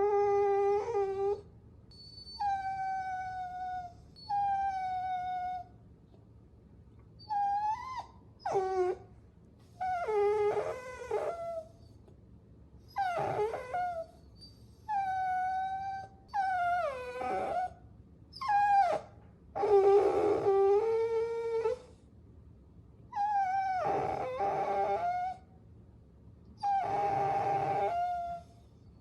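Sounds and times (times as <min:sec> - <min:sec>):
puppies whining: 0:00.0 - 0:05.7, 0:07.2 - 0:09.0, 0:09.7 - 0:12.0, 0:12.9 - 0:22.0, 0:23.2 - 0:25.4, 0:26.6 - 0:28.8.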